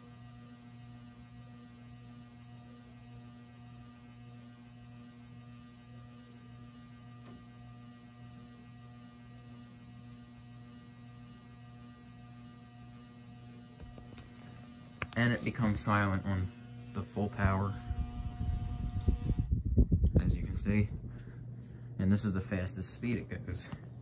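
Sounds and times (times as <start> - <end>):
ceiling fan motor humming: 0.0 - 24.0.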